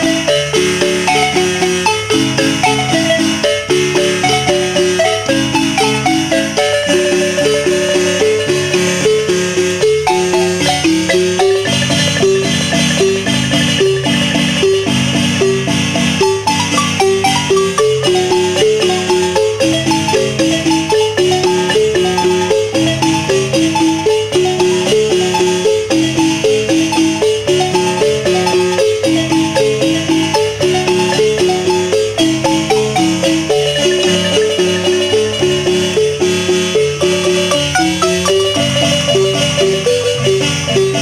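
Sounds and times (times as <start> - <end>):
low bass notes: 0.0 - 26.9, 30.8 - 41.0
wooden marimba melody: 0.0 - 41.0.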